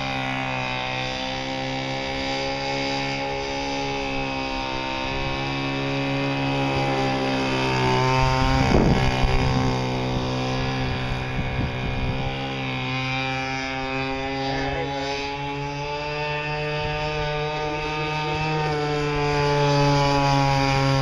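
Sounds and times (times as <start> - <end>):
model speedboat engine buzzing: 0.0 - 21.0.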